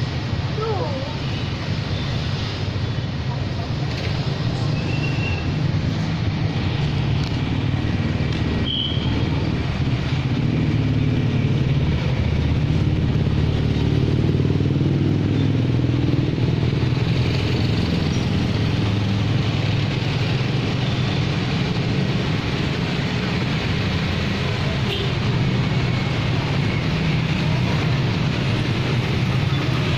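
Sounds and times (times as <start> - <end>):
car and motorcycle engines rumbling: 0.0 - 29.9.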